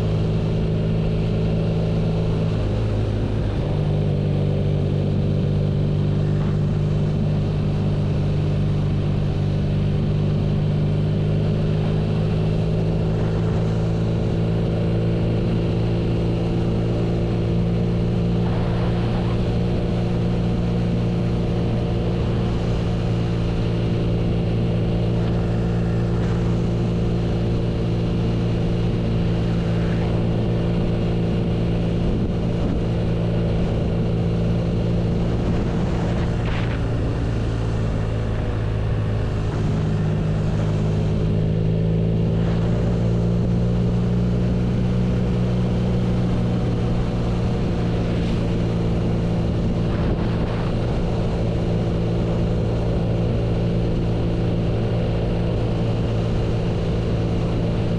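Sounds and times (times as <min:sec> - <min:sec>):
motorcycle engine running steadily: 0:00.0 - 0:57.9.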